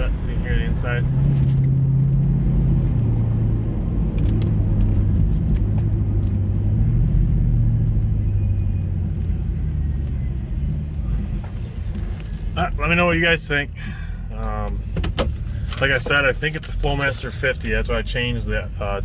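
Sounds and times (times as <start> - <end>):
car exhaust drone in cabin: 0.0 - 19.0.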